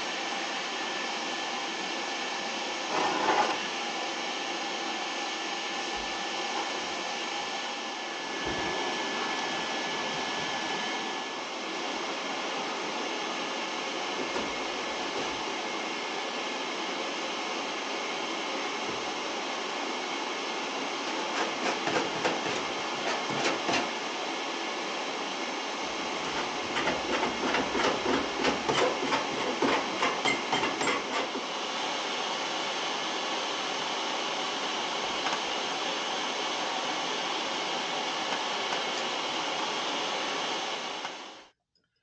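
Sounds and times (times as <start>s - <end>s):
vacuum cleaner running: 0.0s - 41.6s.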